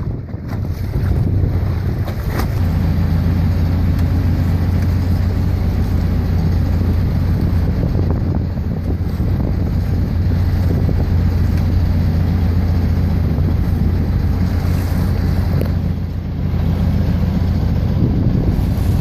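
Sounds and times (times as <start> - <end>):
boat engine drone: 0.0 - 19.0
water rushing past hull: 0.0 - 19.0
wind buffeting microphone: 0.0 - 19.0.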